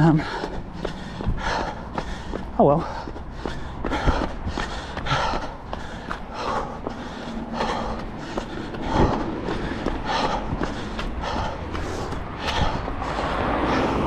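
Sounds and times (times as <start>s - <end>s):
runner breathing hard: 0.0s - 14.0s
steady low rumble: 0.0s - 14.0s.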